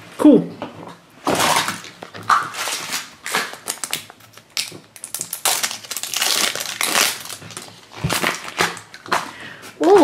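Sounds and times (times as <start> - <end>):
plastic wrapper tearing and crackling: 1.2 - 10.0.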